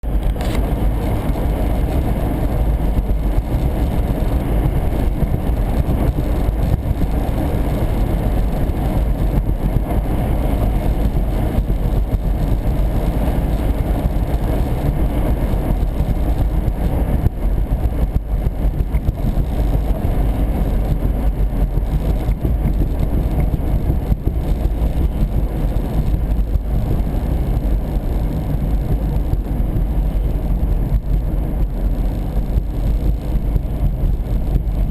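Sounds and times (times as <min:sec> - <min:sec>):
road noise: 0:00.0 - 0:34.9
vehicle engine: 0:00.0 - 0:34.9.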